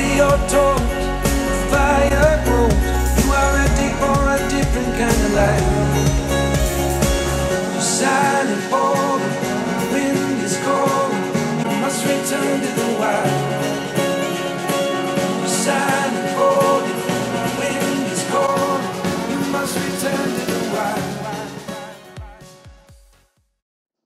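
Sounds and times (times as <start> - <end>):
song with singing over speakers: 0.0 - 23.1.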